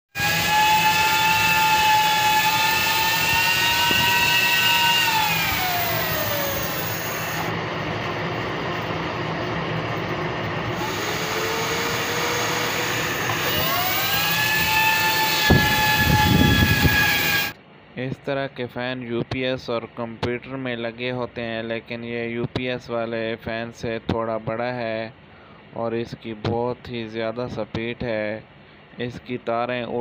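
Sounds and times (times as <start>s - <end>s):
cooling fan whine: 0.1s - 30.0s.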